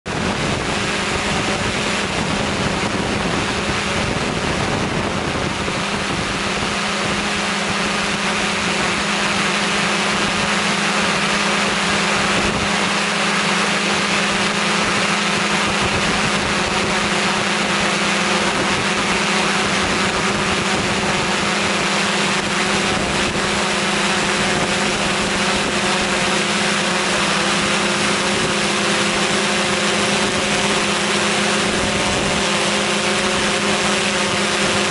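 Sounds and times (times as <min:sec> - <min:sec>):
aircraft propeller drone: 0:00.0 - 0:34.9
wind rush: 0:00.1 - 0:34.9.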